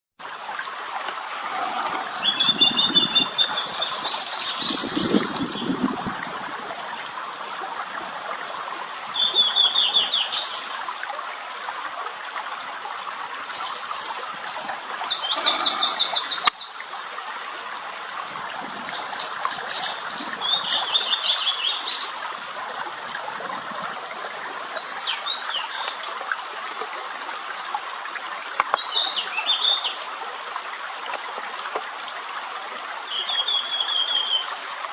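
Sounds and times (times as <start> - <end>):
stream rushing: 0.2 - 29.8.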